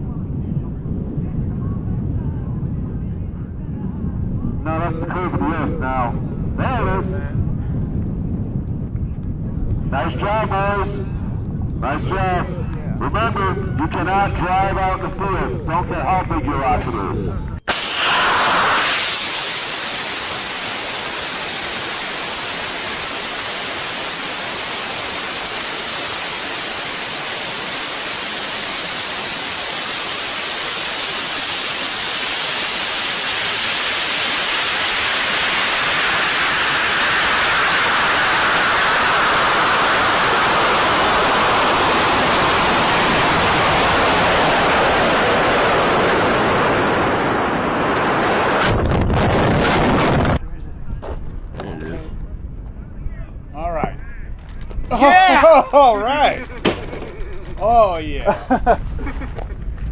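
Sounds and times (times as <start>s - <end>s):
rushing wind: 0.0s - 59.9s.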